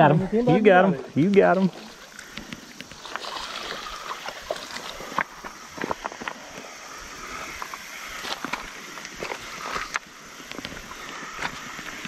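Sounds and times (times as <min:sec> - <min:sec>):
creek water trickling over stones: 0:00.5 - 0:12.0.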